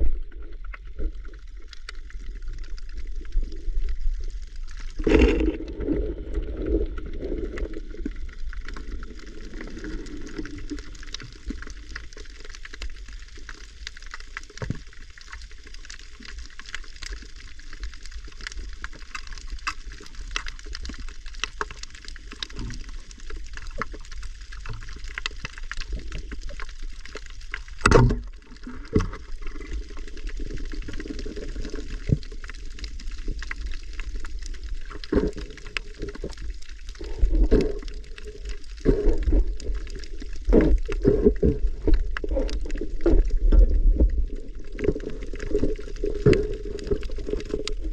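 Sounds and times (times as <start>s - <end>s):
low underwater rumble: 0.0s - 16.5s, 17.2s - 47.9s
underwater crackle of clicks: 0.0s - 47.9s.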